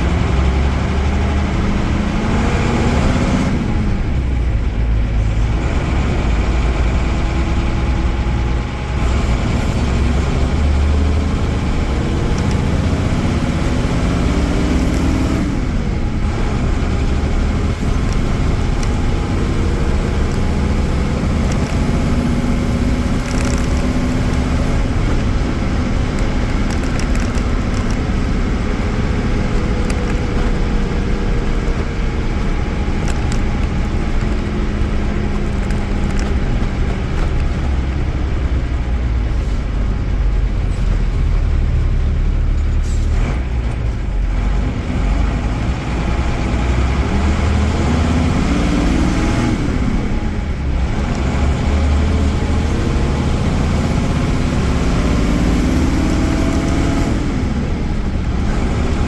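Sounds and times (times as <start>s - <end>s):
bus diesel engine accelerating: 0.0s - 59.0s.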